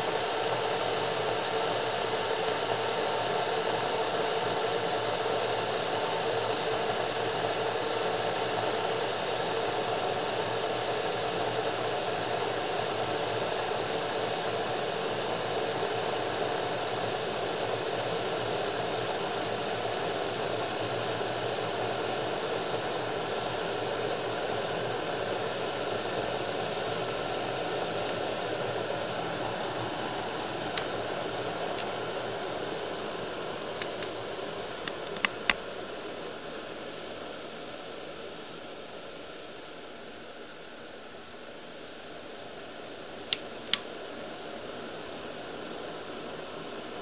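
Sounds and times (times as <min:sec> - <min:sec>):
liquid heating hiss: 0:00.0 - 0:40.6.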